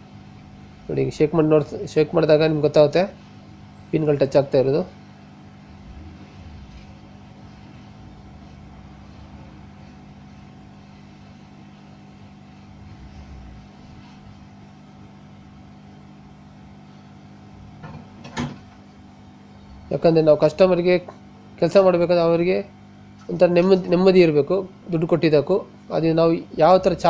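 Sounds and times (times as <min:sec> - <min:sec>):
faint low hum: 0:00.0 - 0:22.6.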